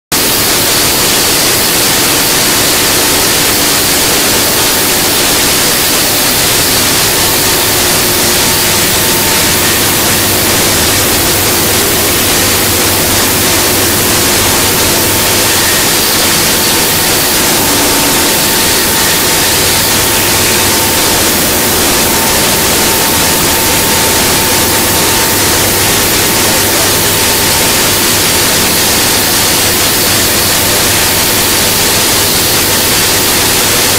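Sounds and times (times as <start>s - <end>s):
faint steady whine: 0.5s - 33.5s
stone router hissing grind: 3.7s - 31.0s.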